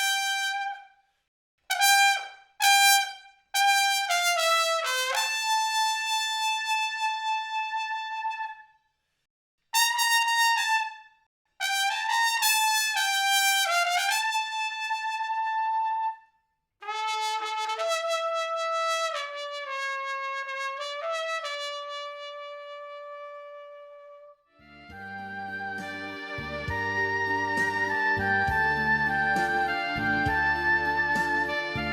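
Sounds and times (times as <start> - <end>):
solo trumpet melody: 0.0 - 0.9, 1.7 - 8.7, 9.8 - 16.2, 16.8 - 31.9.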